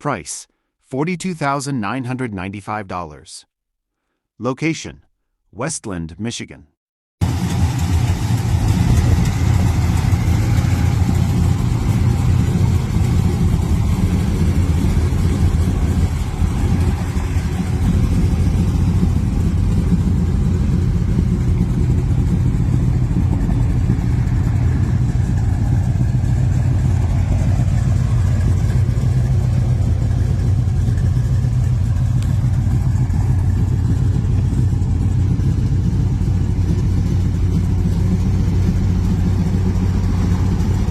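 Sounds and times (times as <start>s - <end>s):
car engine running: 7.2s - 40.9s.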